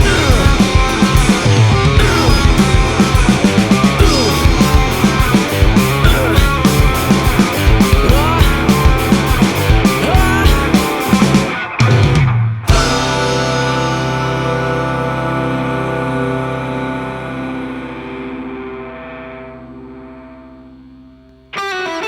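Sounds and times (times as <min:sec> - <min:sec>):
rock band playing loudly: 0:00.0 - 0:20.2, 0:21.6 - 0:22.0
bent guitar notes: 0:00.0 - 0:22.0.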